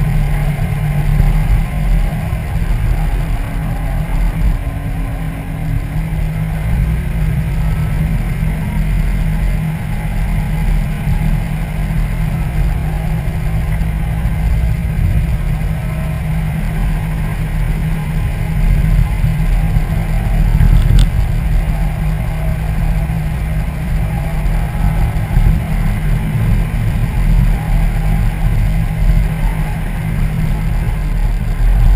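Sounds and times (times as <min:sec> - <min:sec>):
car road noise rumble: 0:00.0 - 0:31.9
wind noise: 0:00.0 - 0:31.9.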